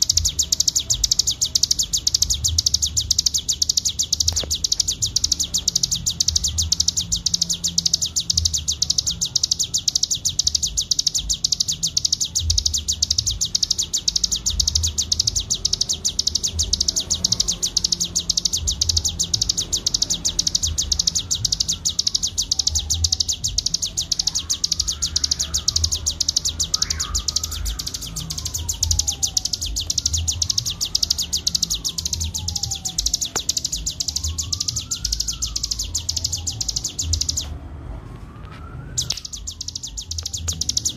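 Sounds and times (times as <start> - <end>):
bird singing high-pitched trill: 0.0 - 37.5, 38.9 - 40.9
faint wailing tone: 0.0 - 40.9.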